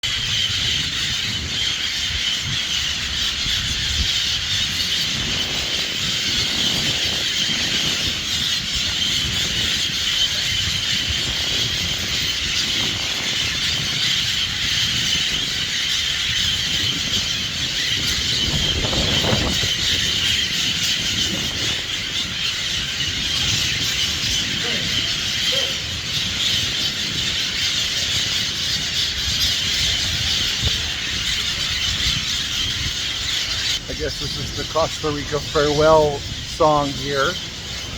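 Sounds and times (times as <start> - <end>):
flock of birds calling: 0.0 - 37.9.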